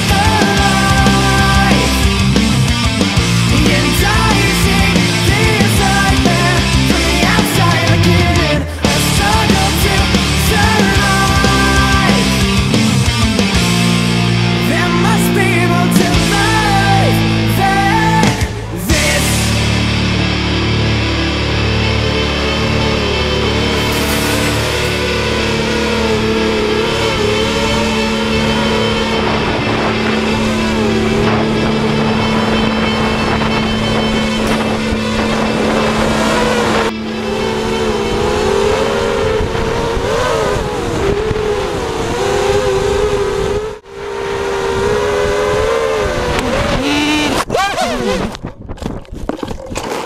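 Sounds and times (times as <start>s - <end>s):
drone motors buzzing whine: 0.0s - 48.5s.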